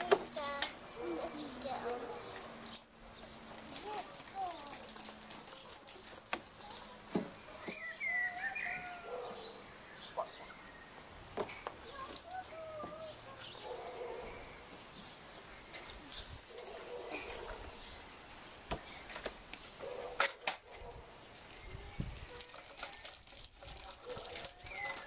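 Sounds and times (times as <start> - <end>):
songbird chirping: 0.0 - 23.3.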